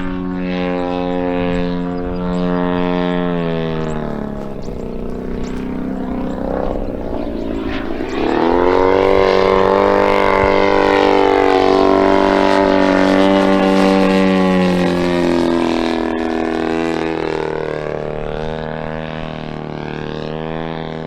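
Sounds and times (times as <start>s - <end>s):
model plane engine and propeller: 0.0s - 21.0s.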